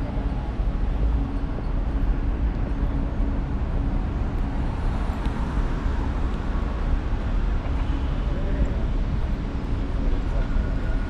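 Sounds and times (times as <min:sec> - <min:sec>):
city background rumble: 0:00.0 - 0:11.0.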